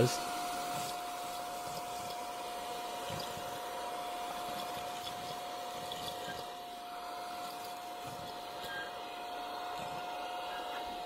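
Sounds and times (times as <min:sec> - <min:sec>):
handheld vacuum cleaner running: 0:00.0 - 0:11.0.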